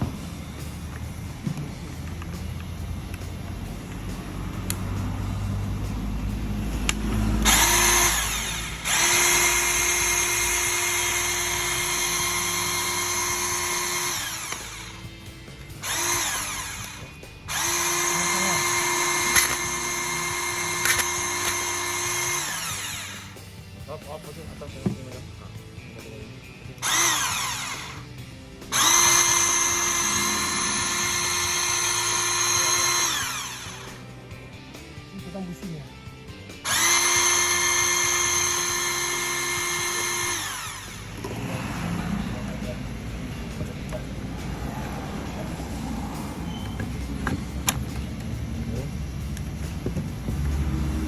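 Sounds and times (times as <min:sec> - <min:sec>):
band saw motor running: 0:00.0 - 0:23.8, 0:26.8 - 0:35.0, 0:36.5 - 0:51.0.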